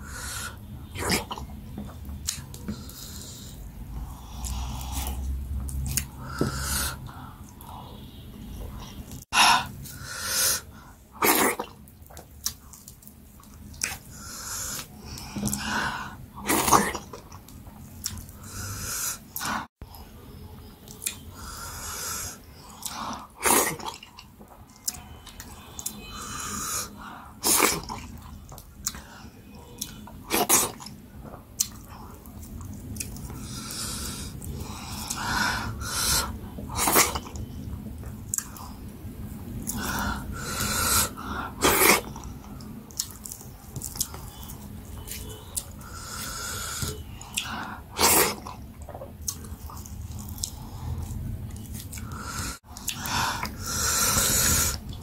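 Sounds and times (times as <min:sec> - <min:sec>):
person chewing: 0:01.0 - 0:10.6, 0:11.2 - 0:19.5, 0:20.9 - 0:55.0.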